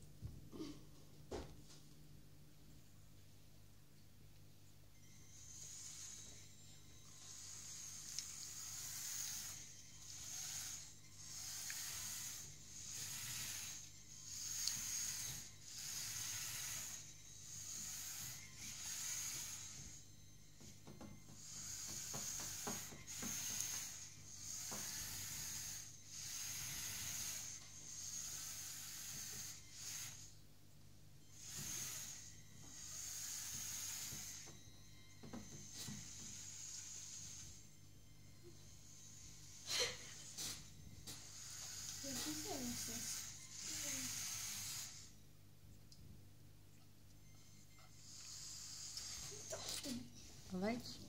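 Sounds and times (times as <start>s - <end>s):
toy electric motor whining: 5.0s - 30.4s, 31.2s - 45.2s, 47.2s - 51.0s.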